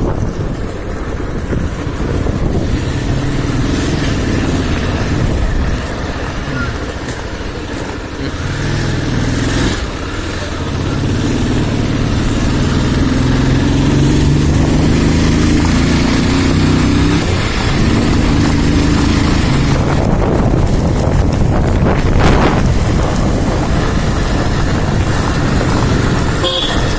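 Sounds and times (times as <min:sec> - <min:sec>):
wind buffeting microphone: 0:00.0 - 0:10.0, 0:10.6 - 0:26.9
motorcycle engine accelerating: 0:00.0 - 0:26.9.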